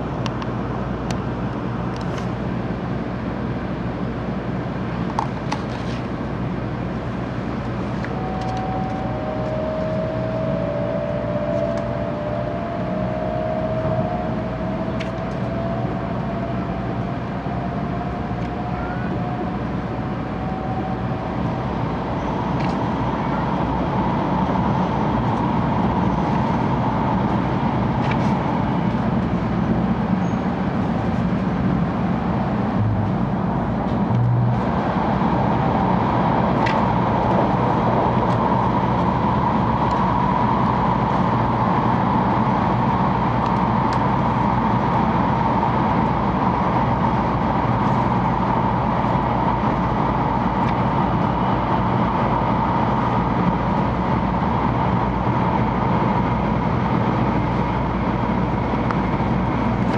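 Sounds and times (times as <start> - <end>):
train cabin rumble and hiss: 0.0 - 59.9
faint rising whine: 6.3 - 59.9.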